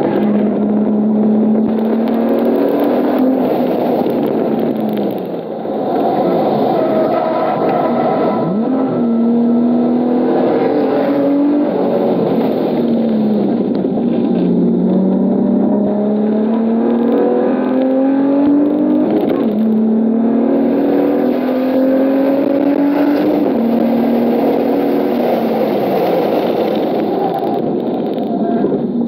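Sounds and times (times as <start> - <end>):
car engine accelerating: 0.0 - 29.0
road noise: 0.0 - 29.0.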